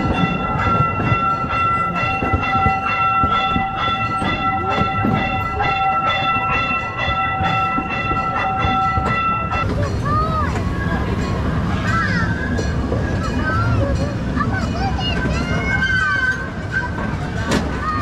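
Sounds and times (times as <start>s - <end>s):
train wheels clacking: 0.0s - 18.0s.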